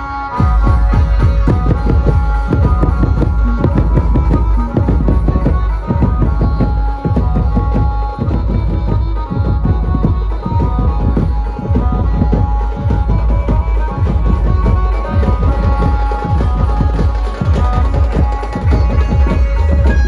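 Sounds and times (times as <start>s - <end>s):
hand drum and percussion rhythm: 0.0s - 20.0s.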